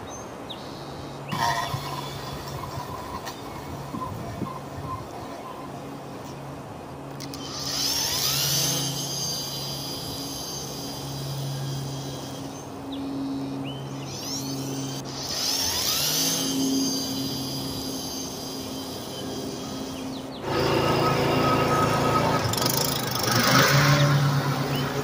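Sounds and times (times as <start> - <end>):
higher buzzing whir: 0.0 - 25.0
string trimmer running: 1.3 - 4.6, 7.0 - 25.0.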